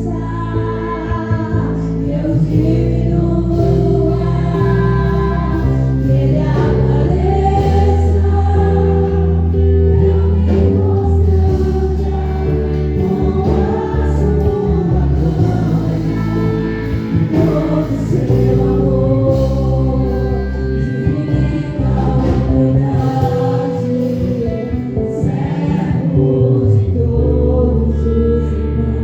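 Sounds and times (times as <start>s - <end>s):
instrumental accompaniment with bass: 0.0s - 29.0s
voices singing together: 0.0s - 29.0s.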